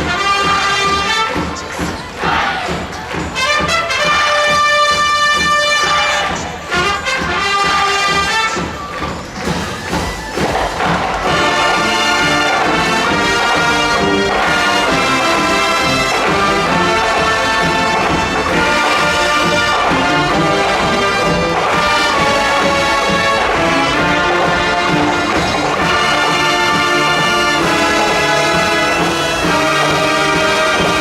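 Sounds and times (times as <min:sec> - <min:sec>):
brass band playing: 0:00.0 - 0:31.0.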